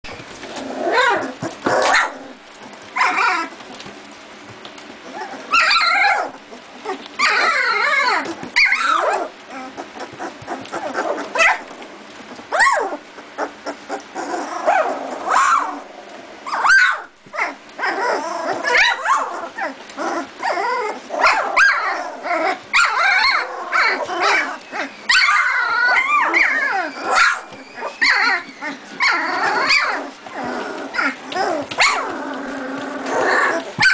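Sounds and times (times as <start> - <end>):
puppies barking and growling: 0.0 - 33.9
puppies yipping and whimpering: 0.1 - 3.8, 5.0 - 33.9.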